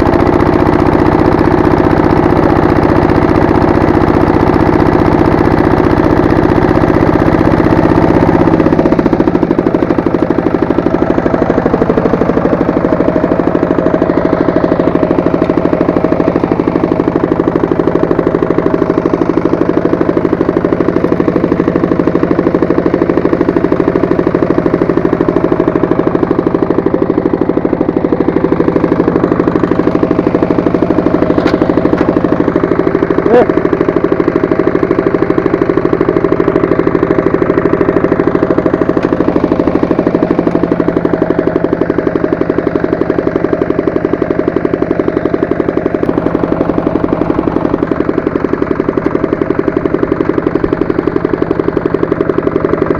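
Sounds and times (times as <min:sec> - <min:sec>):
walk-behind tractor engine running: 0:00.0 - 0:52.9.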